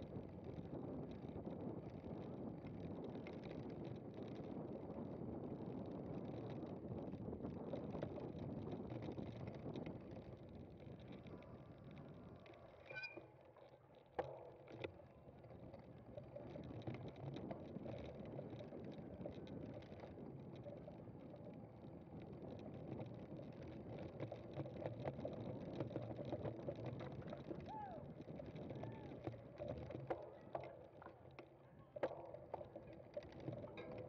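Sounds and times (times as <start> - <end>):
bike tyres rumbling and rattling: 0.0 - 34.0.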